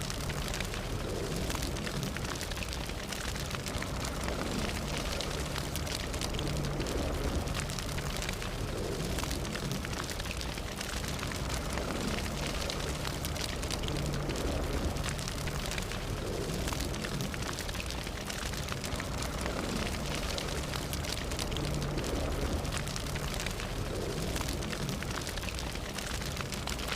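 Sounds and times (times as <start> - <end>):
fire crackling and popping: 0.0 - 26.9.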